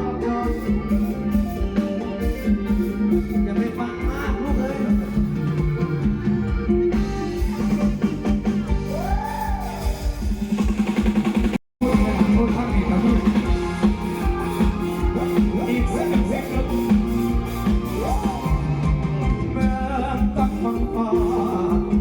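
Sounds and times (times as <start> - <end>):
guitar: 0.0 - 22.0
drum beat: 1.2 - 22.0.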